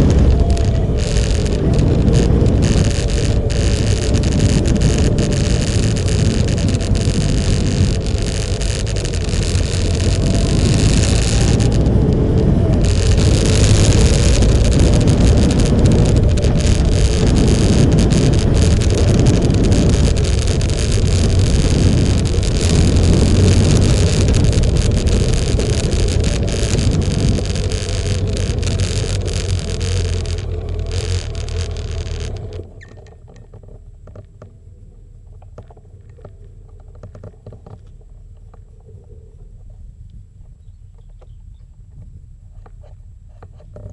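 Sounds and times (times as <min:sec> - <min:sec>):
motorcycle engine drone: 0:00.0 - 0:39.0
faint hum: 0:00.0 - 0:43.9
wind noise on microphone: 0:00.0 - 0:43.9.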